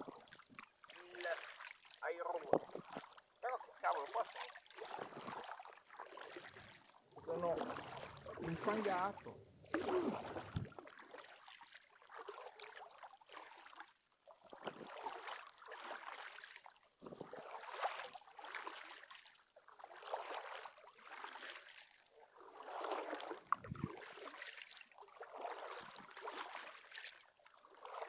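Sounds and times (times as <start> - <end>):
kayak paddle strokes in water: 0.0 - 28.0.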